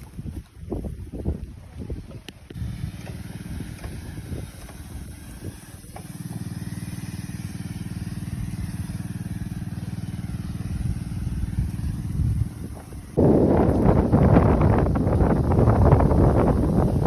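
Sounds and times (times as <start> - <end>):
small engine puttering: 2.4 - 17.0.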